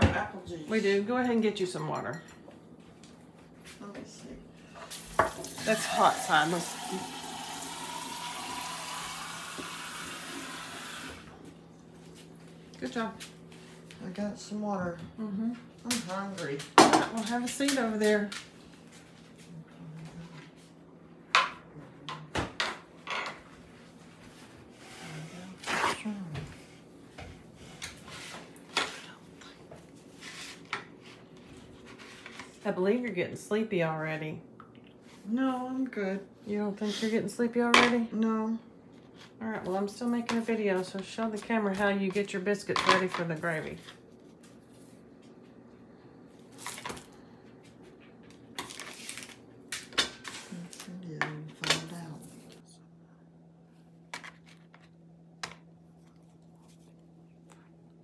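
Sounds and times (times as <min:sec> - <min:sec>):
low room hum: 0:00.0 - 0:58.0.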